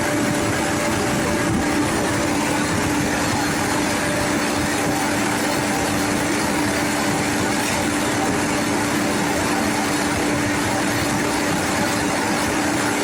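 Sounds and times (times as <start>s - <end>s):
paver engine running: 0.0s - 13.0s
steady held tone: 0.0s - 13.0s.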